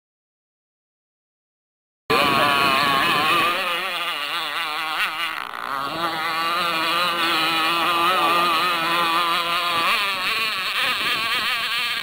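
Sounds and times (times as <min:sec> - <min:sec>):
two-stroke boat engine at high revs: 0:02.1 - 0:12.0.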